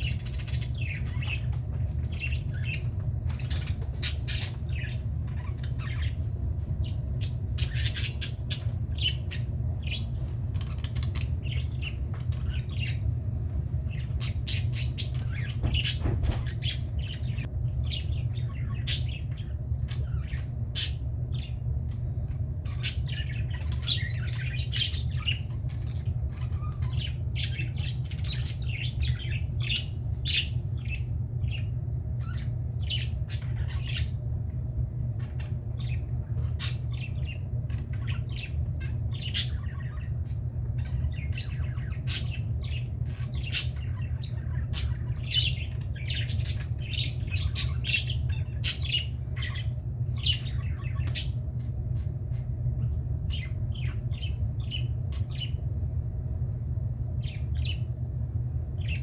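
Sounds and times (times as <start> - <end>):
budgerigars chattering and squawking: 0.0 - 34.3, 35.1 - 55.7, 57.2 - 58.0, 58.8 - 59.0
steady low hum: 0.0 - 59.0.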